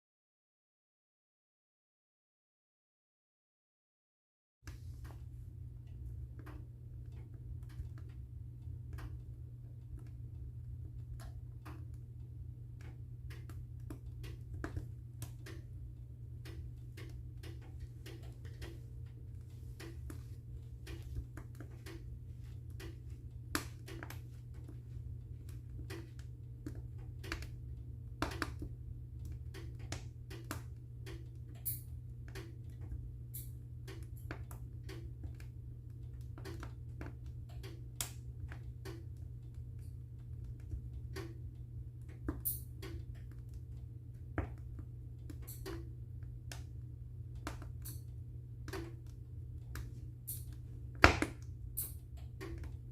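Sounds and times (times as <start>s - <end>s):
wood fire crackling and popping: 5.8s - 52.9s.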